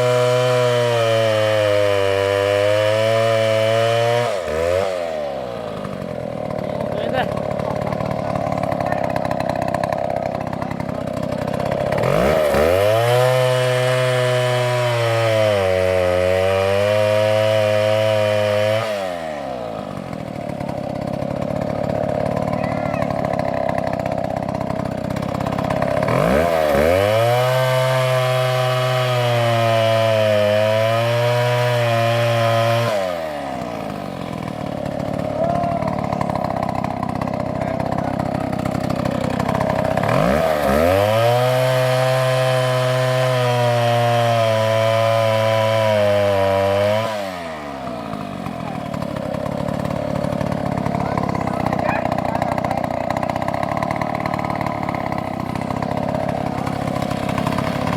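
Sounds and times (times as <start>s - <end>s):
chainsaw revving: 0.0s - 57.9s.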